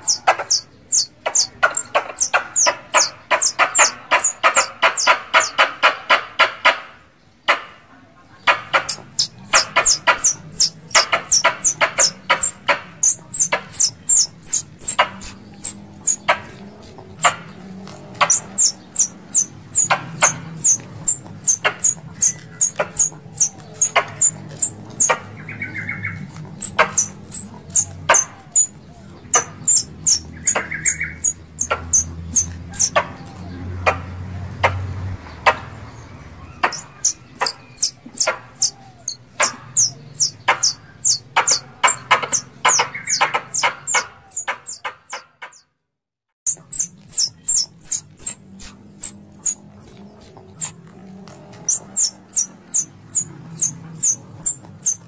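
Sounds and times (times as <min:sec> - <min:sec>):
squirrel chirping calls: 0:00.0 - 0:07.6, 0:08.4 - 0:45.7, 0:46.5 - 0:50.8, 0:51.6 - 0:55.0.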